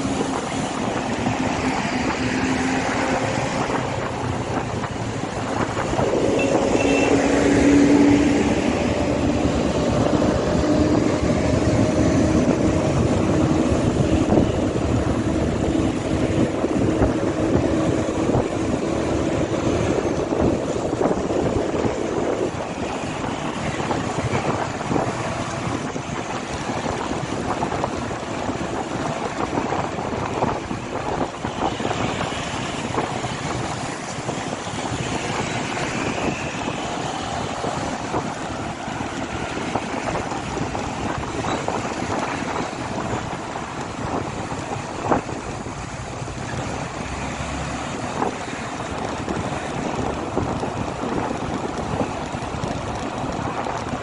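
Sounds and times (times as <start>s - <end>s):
road noise: 0.0s - 54.0s
wind rushing over microphone: 0.0s - 54.0s.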